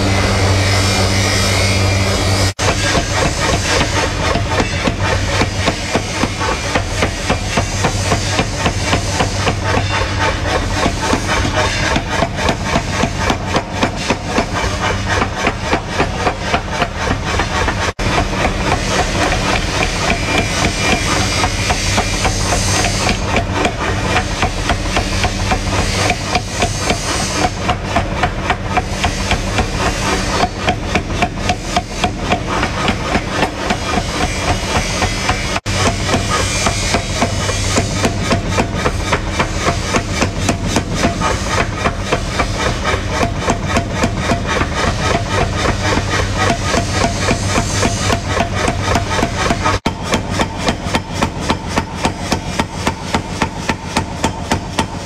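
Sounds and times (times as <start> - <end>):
power hammer striking hot steel: 0.0 - 55.0
steady machine hum: 0.0 - 55.0.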